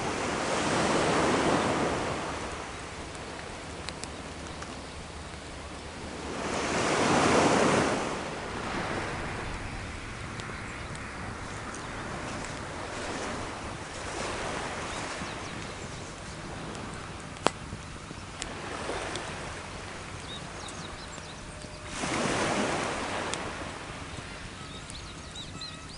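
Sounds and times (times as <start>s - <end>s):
sea waves washing on shore: 0.0s - 25.9s.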